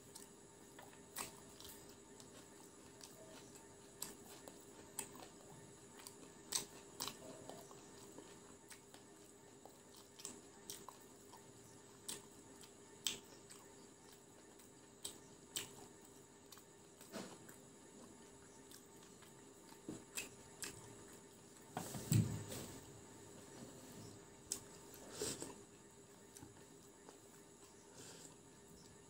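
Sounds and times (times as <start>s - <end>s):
close-up chewing: 0.0s - 29.0s
faint steady hum: 0.0s - 29.0s.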